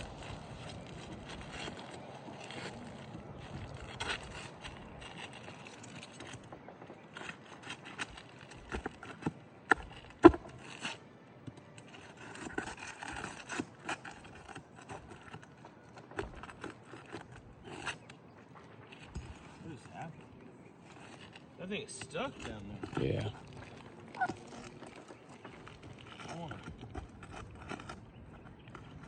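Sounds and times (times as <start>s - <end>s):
roofing tool scraping: 0.0s - 29.0s.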